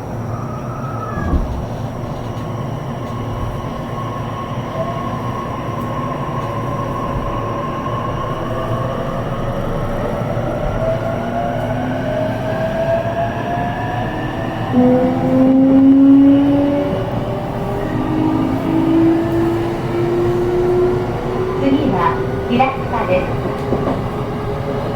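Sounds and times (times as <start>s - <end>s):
rail running noise: 0.0s - 24.9s.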